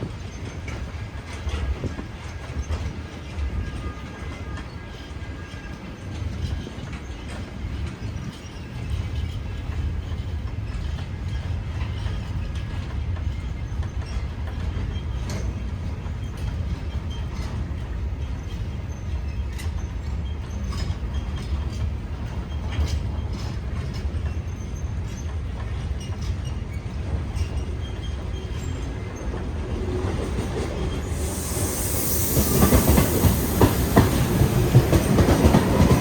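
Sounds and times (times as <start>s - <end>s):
freight train wagons rumbling: 0.0s - 36.0s
train wheels clicking: 5.8s - 36.0s.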